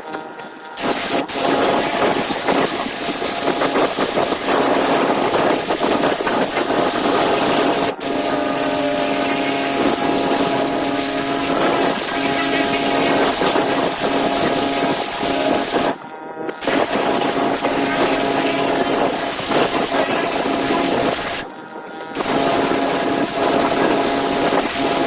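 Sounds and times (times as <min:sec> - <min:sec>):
pressure washer engine humming: 0:00.8 - 0:16.0, 0:16.6 - 0:21.4, 0:22.2 - 0:25.0
water jet hissing: 0:00.8 - 0:16.0, 0:16.6 - 0:21.4, 0:22.2 - 0:25.0.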